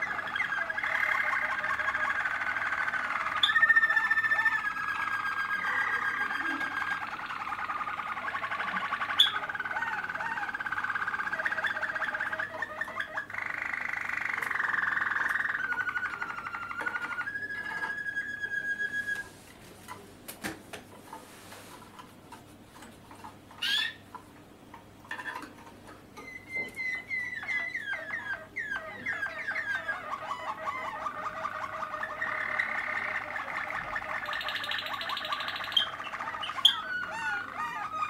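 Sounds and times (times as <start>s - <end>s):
canaries singing trills: 0.0s - 19.4s, 23.2s - 24.3s, 25.0s - 38.0s.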